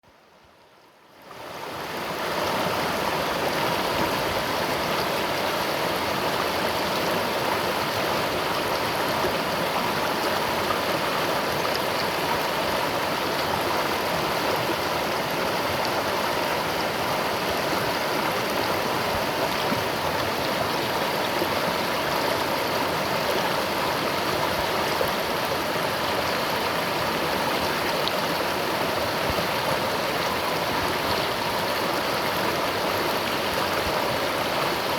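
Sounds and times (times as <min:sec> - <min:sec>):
river water rushing: 0:01.2 - 0:34.9.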